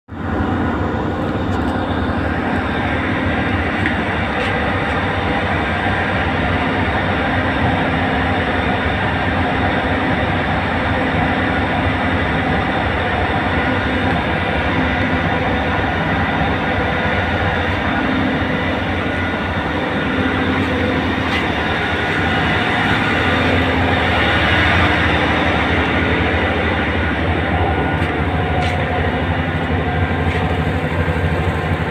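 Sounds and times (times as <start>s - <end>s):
diesel engine droning: 0.1s - 31.9s.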